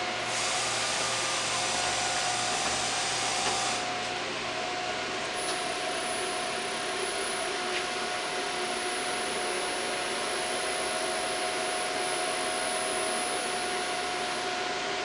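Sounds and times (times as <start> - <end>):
machining center whirring: 0.0 - 15.0.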